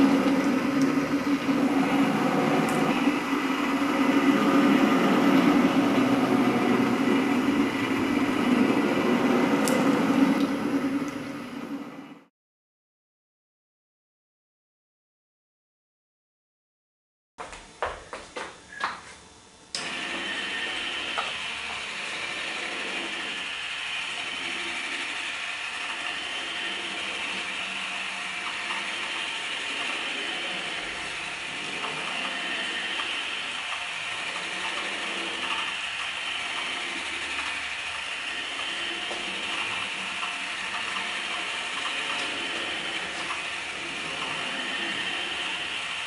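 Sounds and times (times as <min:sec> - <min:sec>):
gear-driven machine running: 0:00.0 - 0:12.3, 0:19.8 - 0:46.0.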